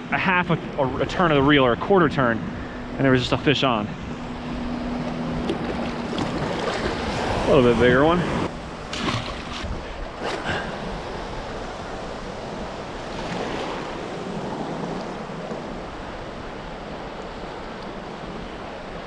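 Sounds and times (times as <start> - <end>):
small waves sloshing in shallow water: 0.0 - 19.0
wind buffeting microphone: 0.0 - 19.0.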